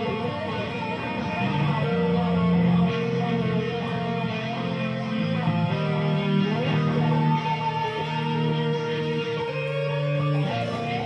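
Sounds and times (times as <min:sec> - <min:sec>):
electric guitar lead line: 0:00.0 - 0:11.0.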